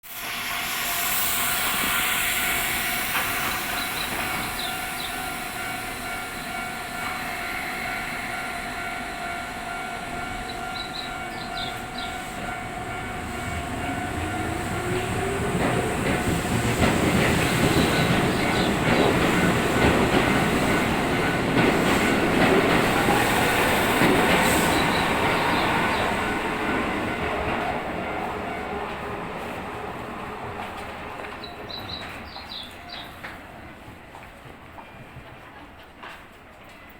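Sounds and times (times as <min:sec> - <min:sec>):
train wheels clattering on rails: 0:01.2 - 0:36.9.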